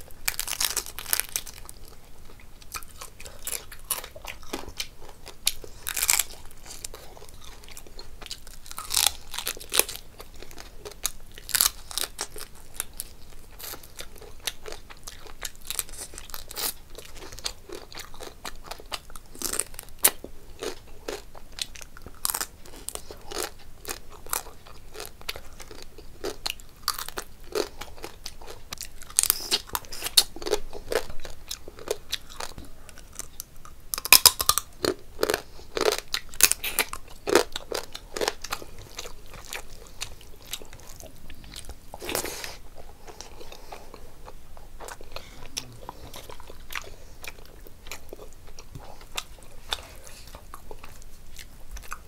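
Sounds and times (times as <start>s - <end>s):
person chewing and lip smacking: 0.2s - 52.0s.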